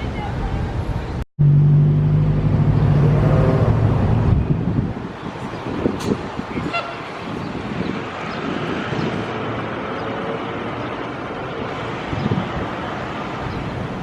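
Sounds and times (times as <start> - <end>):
vehicle rumble: 0.0 - 14.0
wind buffeting microphone: 2.4 - 14.0.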